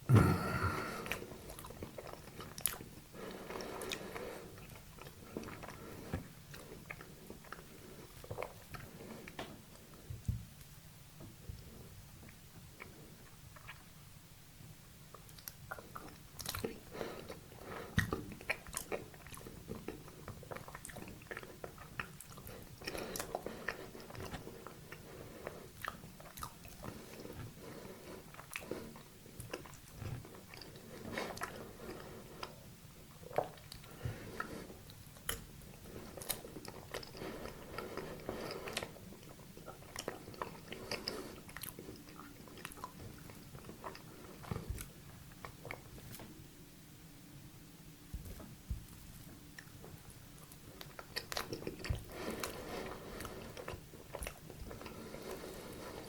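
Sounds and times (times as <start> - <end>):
biting and chewing dessert: 0.1 - 10.1, 15.1 - 46.3, 49.1 - 56.0.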